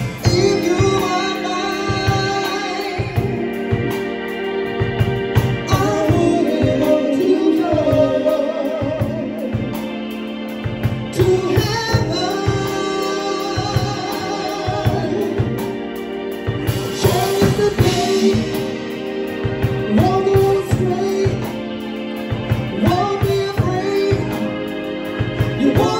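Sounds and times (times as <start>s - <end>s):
drum kit beat: 0.0s - 25.9s
electric bass: 0.0s - 25.9s
keyboard: 0.0s - 25.9s.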